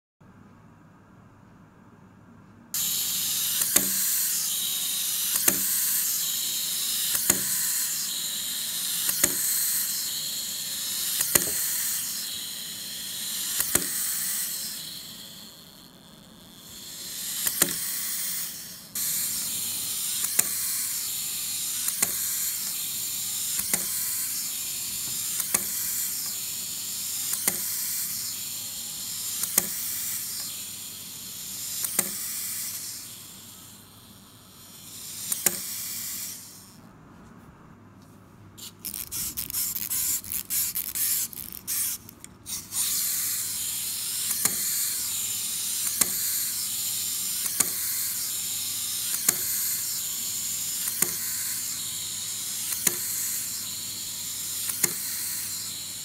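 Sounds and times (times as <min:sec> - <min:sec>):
wind-up toy whirring: 0:02.8 - 0:36.8, 0:38.6 - 0:56.0.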